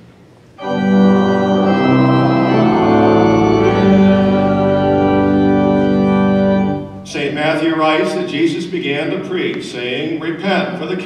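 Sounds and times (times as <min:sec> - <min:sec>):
church organ playing chords: 0:00.4 - 0:09.4.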